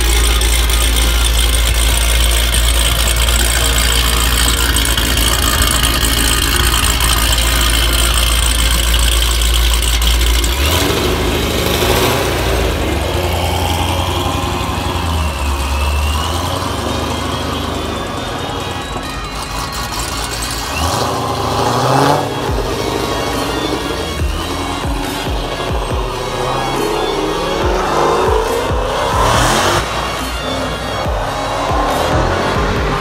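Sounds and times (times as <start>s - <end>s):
car engine idling loudly: 0.0s - 33.0s
car pulling away: 0.0s - 33.0s.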